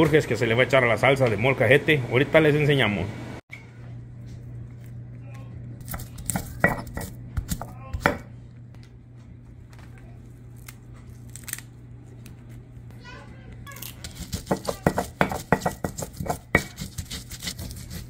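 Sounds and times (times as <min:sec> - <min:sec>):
steady low hum: 0:00.2 - 0:18.0.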